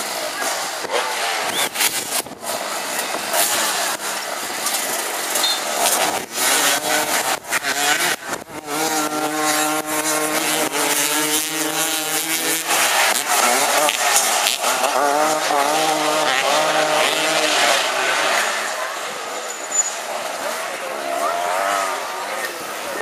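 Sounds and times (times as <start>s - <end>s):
racing engines passing: 0.0s - 23.0s.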